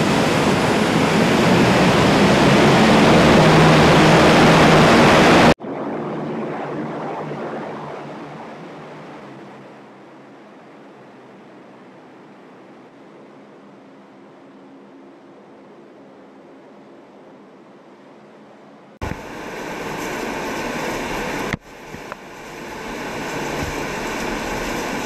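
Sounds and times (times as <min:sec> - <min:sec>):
hovercraft turbines rushing: 0:00.0 - 0:15.5, 0:19.0 - 0:25.0
low steady craft drone: 0:00.0 - 0:25.0.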